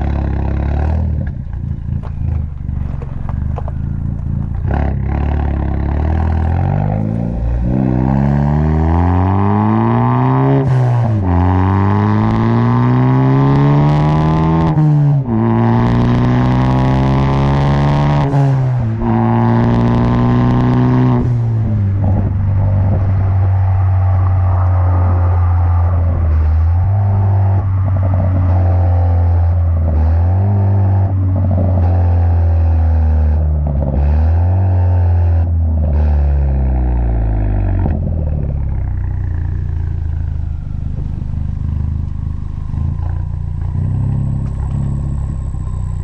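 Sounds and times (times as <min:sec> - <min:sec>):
car engine accelerating through gears: 0:00.0 - 0:46.0.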